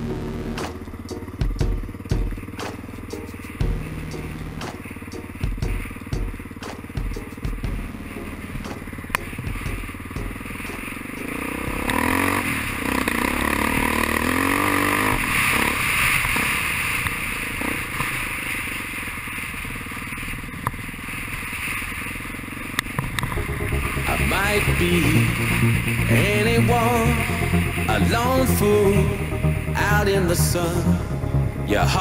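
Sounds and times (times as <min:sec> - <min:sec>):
off-road motorcycle engine revving: 0:00.0 - 0:32.0.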